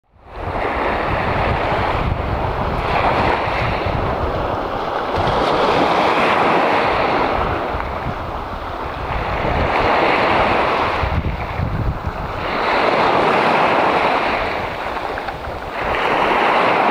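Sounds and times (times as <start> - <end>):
wind buffeting microphone: 0.1 - 16.9
small waves breaking on beach: 0.2 - 16.9.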